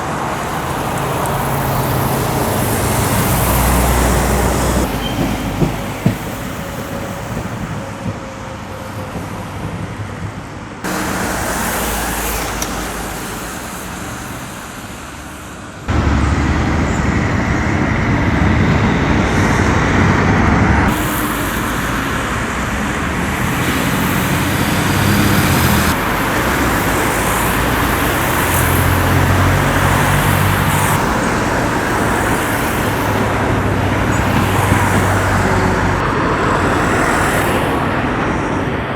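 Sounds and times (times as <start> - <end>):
trains running: 0.0 - 38.9.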